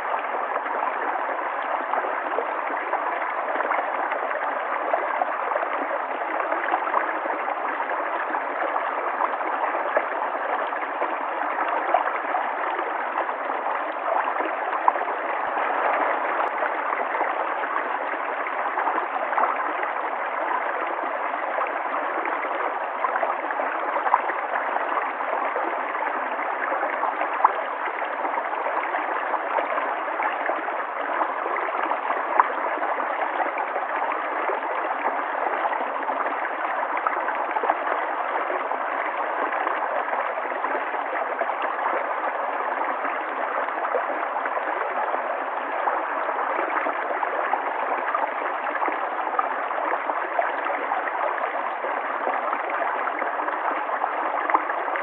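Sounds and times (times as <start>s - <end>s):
river water flowing: 0.0s - 55.0s
water gurgles and splashes: 0.0s - 55.0s.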